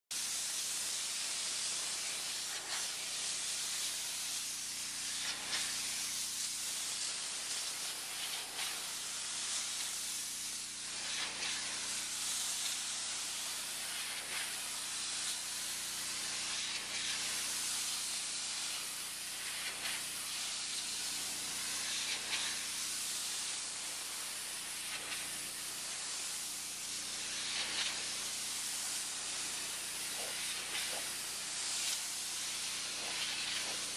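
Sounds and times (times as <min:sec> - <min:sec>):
pressure washer water jet hissing: 0:00.1 - 0:33.9.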